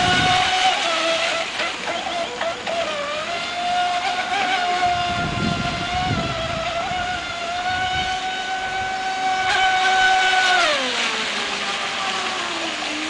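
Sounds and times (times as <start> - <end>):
electric motor high whine: 0.0 - 13.0.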